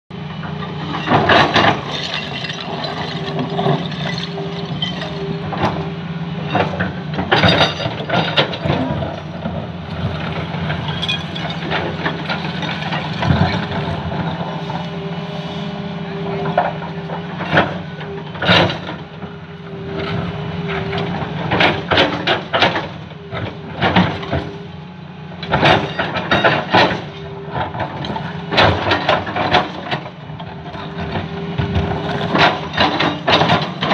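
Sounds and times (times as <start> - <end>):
excavator diesel engines running: 0.1 - 33.9.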